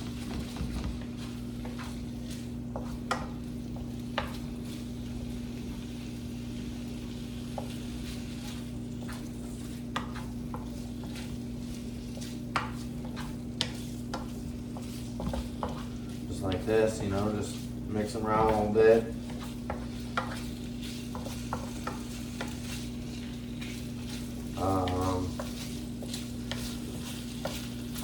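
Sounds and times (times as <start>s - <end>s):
chicken sizzling in a pan: 0.0s - 28.0s
steady low hum: 0.0s - 28.0s.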